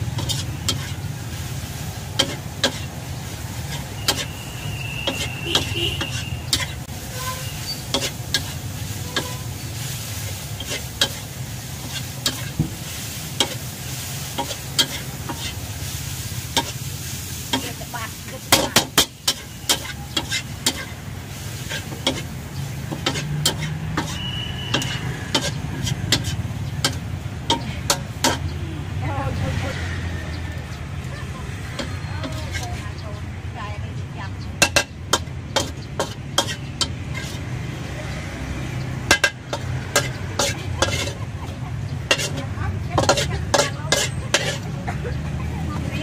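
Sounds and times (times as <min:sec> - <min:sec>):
metal spatula scraping a wok: 0:00.0 - 0:29.6, 0:31.4 - 0:33.2, 0:34.5 - 0:46.0
food sizzling: 0:00.0 - 0:46.0.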